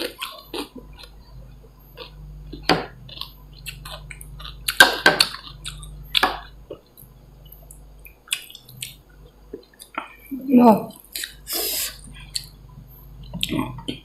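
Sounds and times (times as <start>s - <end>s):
person chewing and lip smacking: 0.0s - 10.2s, 10.9s - 12.6s, 13.2s - 14.0s
steady low hum: 0.0s - 14.0s.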